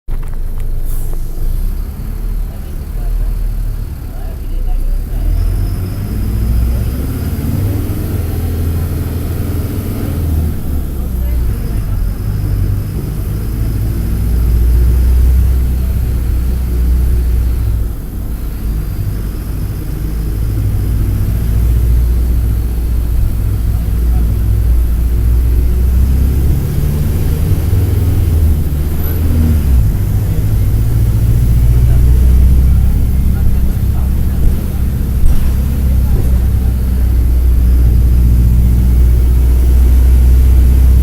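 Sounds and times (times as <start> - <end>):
bus diesel engine drone: 0.1 - 41.0.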